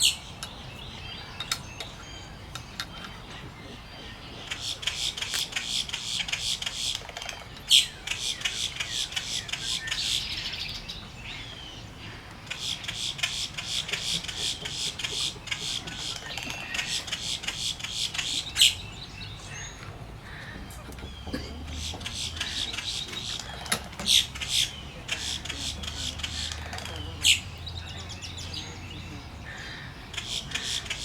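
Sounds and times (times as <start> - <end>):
nestlings chattering chorus: 0.0 - 31.0.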